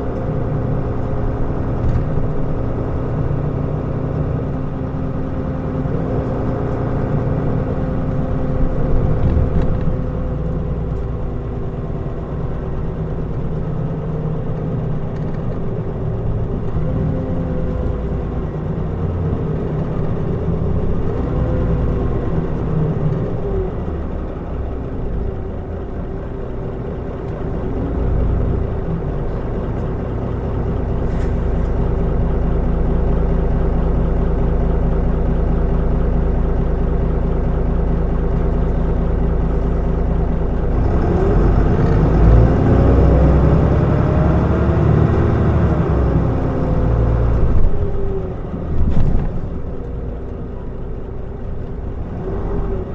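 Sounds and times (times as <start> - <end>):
bus engine rumbling: 0.0 - 52.9
drivetrain whine: 0.0 - 52.9.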